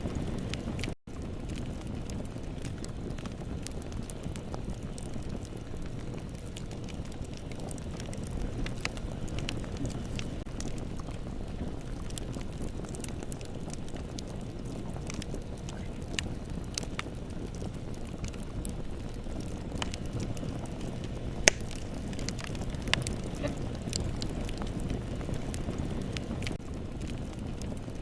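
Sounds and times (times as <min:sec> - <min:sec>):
burning wood crackling and popping: 0:00.0 - 0:28.0
rush of bonfire flames: 0:00.0 - 0:28.0.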